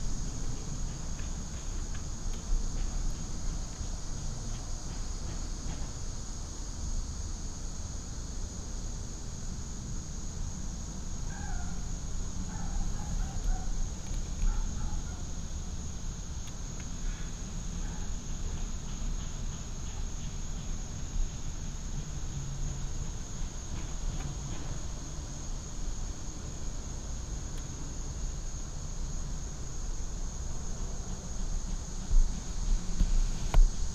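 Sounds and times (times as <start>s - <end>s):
steady high-pitched whine: 0.0s - 33.9s.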